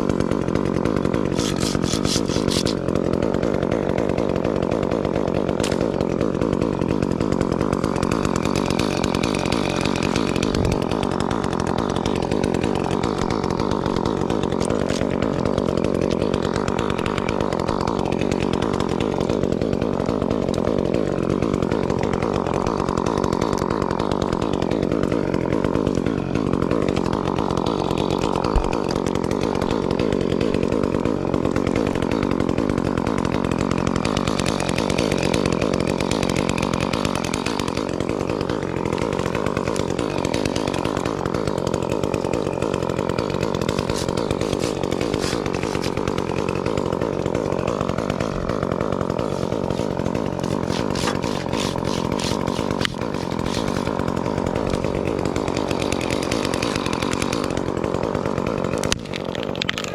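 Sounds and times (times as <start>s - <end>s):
chainsaw running at high revs: 0.0s - 59.9s.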